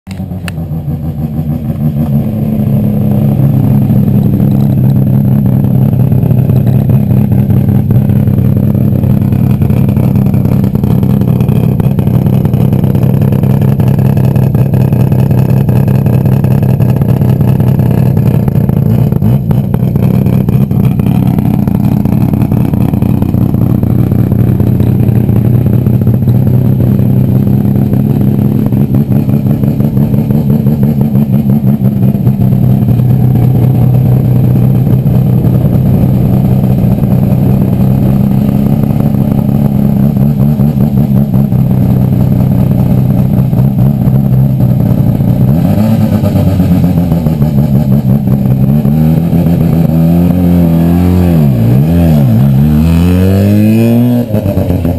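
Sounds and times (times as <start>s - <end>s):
rotary engine idling loudly: 0.1s - 54.9s.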